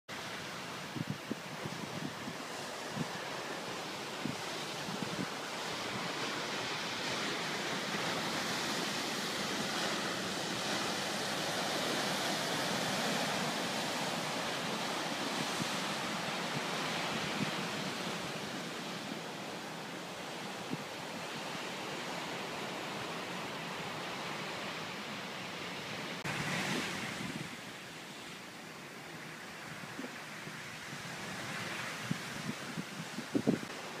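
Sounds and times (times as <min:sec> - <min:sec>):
ocean surf breaking on rocks: 0:00.1 - 0:34.0
wind through grass and trees: 0:00.1 - 0:34.0.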